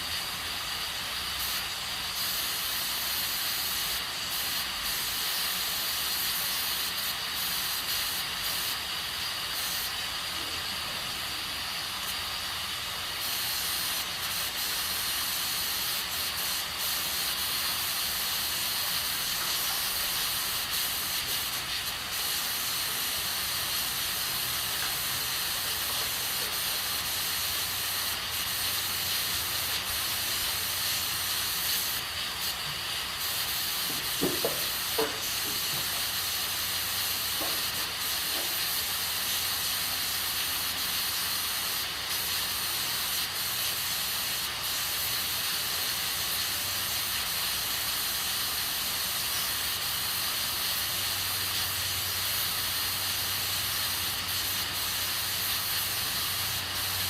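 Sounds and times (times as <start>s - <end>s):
pressure cooker steam hissing: 0.0s - 57.0s.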